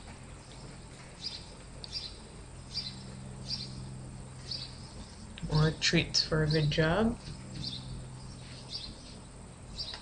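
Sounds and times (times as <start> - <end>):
faint low hum: 0.0 - 10.0
small birds chirping: 0.0 - 10.0.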